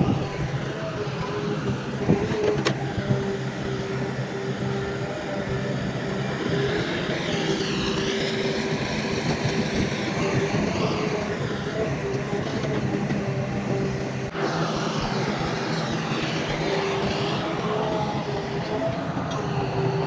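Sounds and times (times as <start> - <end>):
diesel engine with whine: 0.0 - 20.0
wavering squeal: 0.0 - 20.0.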